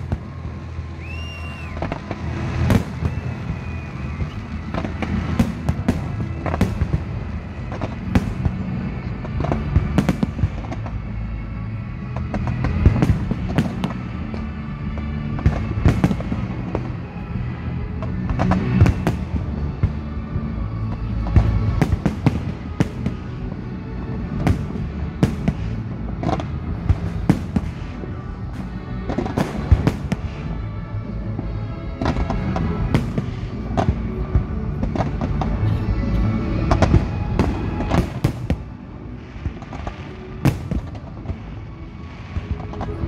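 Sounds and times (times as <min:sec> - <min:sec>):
fireworks bangs and crackles: 0:00.0 - 0:43.0
music: 0:00.0 - 0:43.0.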